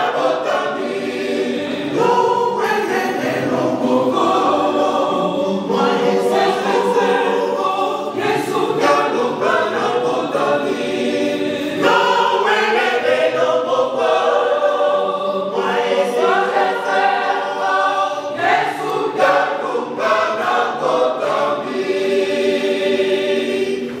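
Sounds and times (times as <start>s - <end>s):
mixed choir singing a hymn: 0.0s - 24.0s.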